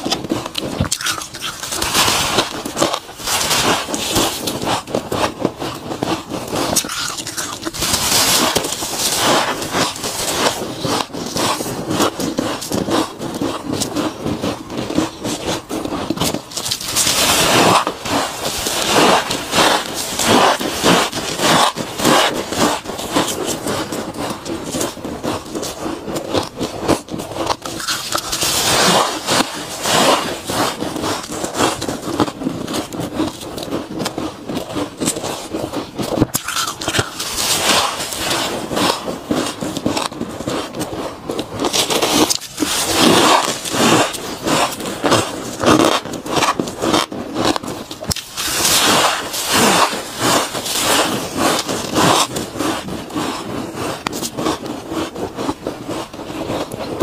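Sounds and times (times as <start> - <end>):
frost crunching while chewed: 0.0 - 57.0.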